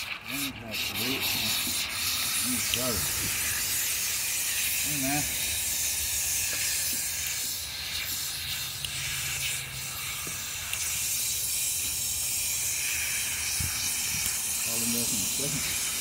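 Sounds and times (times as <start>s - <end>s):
water spraying from hose: 0.0s - 16.0s.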